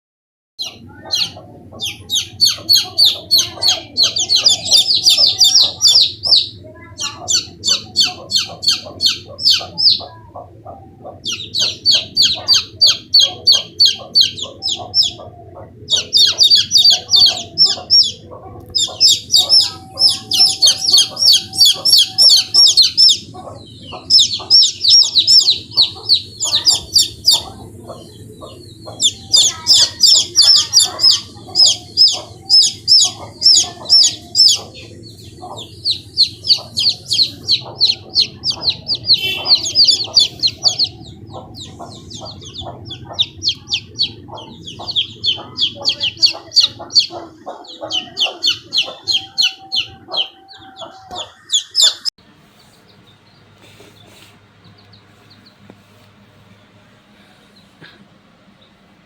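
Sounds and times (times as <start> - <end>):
chicks peeping: 0.6 - 58.8.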